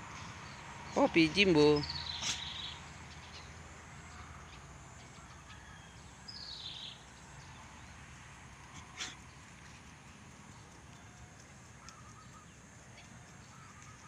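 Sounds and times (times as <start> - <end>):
soft outdoor hiss: 0.0 - 14.0.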